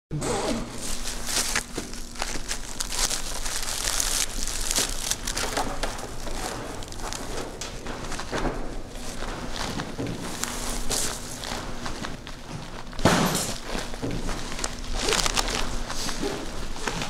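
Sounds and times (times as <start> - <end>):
low steady hum: 0.1 - 17.0
thick bag rustling: 0.7 - 17.0.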